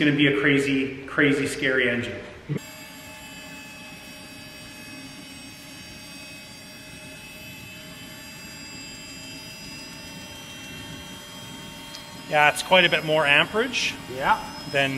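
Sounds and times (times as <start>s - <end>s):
micro turbine engine whine: 0.9s - 14.9s.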